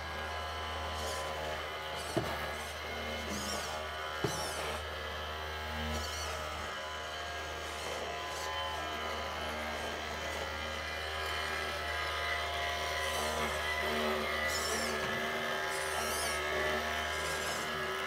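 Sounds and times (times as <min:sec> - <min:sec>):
small electric motor buzzing: 0:00.0 - 0:18.0.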